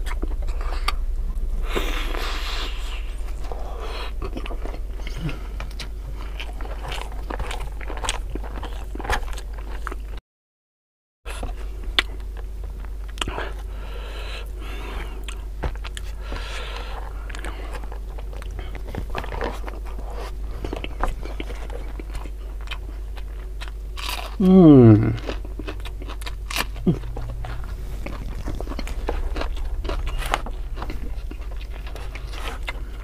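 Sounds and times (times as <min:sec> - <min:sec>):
person chewing with mouth sounds: 0:00.0 - 0:01.0, 0:01.6 - 0:10.2, 0:11.3 - 0:33.0
steady low hum: 0:00.0 - 0:10.2, 0:11.3 - 0:33.0.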